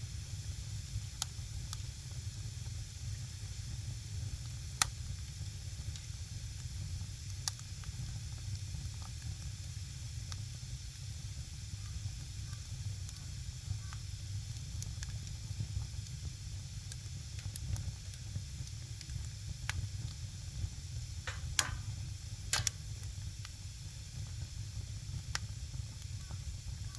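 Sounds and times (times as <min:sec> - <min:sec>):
firewood burning and crackling: 0:00.0 - 0:26.9
sharp pops from fire: 0:00.3 - 0:26.9.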